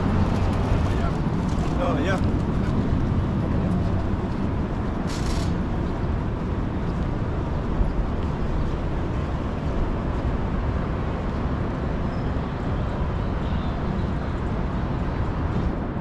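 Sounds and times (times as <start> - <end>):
passing traffic rumble: 0.0 - 16.0.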